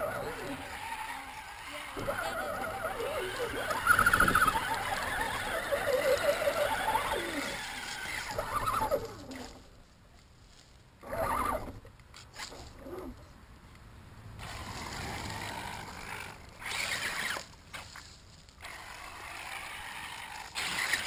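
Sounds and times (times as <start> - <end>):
toy truck motor whining: 0.0 - 9.7, 11.0 - 13.1, 14.4 - 17.9, 18.6 - 21.0.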